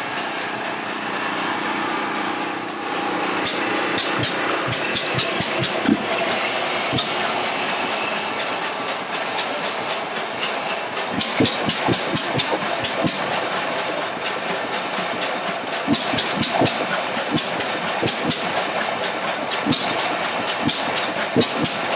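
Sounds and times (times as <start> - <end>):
stationary engine clicking: 2.9 - 21.9.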